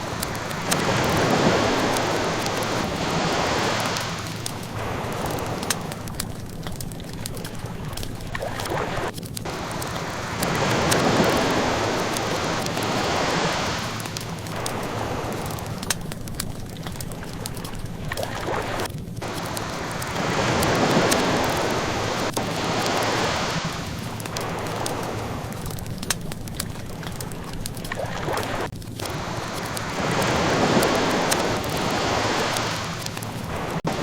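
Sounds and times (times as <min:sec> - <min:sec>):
ocean waves washing in: 0:00.0 - 0:34.0
wood fire crackling: 0:00.0 - 0:34.0.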